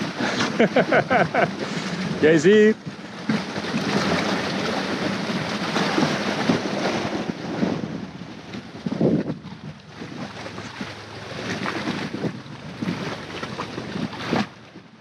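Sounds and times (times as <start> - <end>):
waves breaking against rocks: 0.0 - 15.0
wind buffeting microphone: 0.0 - 15.0.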